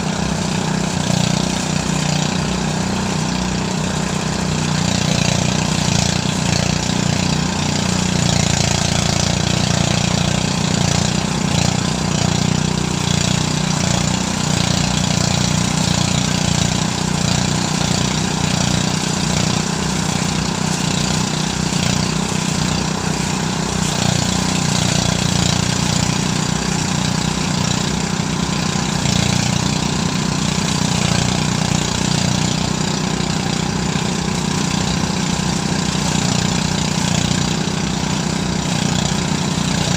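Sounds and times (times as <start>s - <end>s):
engine hum: 0.0s - 39.9s
thresher rushing noise: 0.0s - 39.9s.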